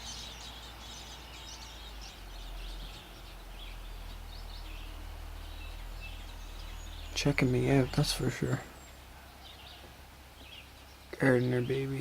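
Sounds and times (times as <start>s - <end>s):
faint bird chirps: 0.0s - 12.0s
low outdoor rumble: 0.0s - 12.0s.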